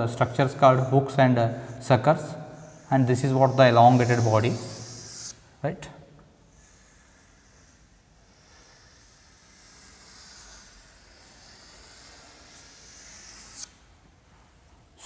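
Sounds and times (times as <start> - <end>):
chalk scratching on chalkboard: 0.3 - 5.4, 6.5 - 13.7.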